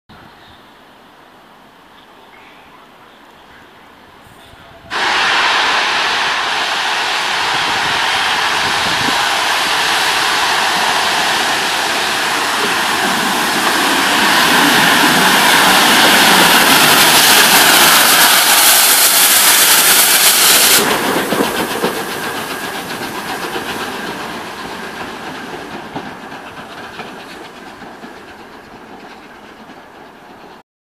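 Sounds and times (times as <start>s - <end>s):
train passing: 0.2s - 30.6s
steam locomotive hissing: 1.4s - 30.6s.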